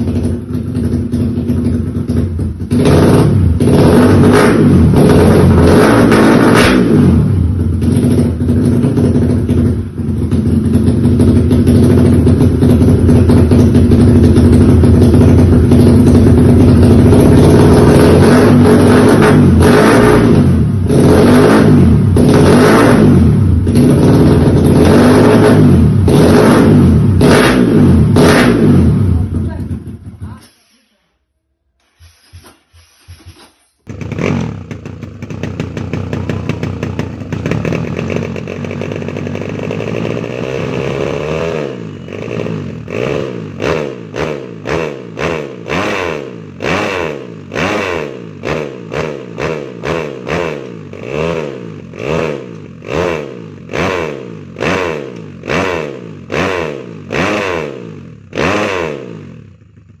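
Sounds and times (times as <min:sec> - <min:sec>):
dirt bike engine revving: 0:00.0 - 0:29.2, 0:32.3 - 1:00.0.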